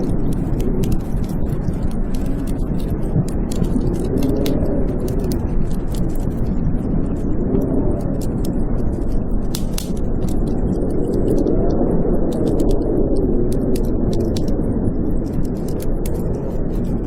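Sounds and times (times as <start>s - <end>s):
deep steady rumble: 0.0s - 17.0s
wind howling: 0.0s - 17.0s
wood fire crackling: 0.0s - 17.0s.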